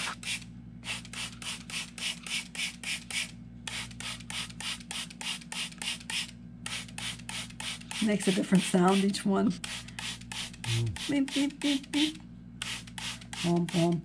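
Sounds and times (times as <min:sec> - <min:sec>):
spray bottle spritzing water: 0:00.0 - 0:11.5, 0:12.6 - 0:13.9.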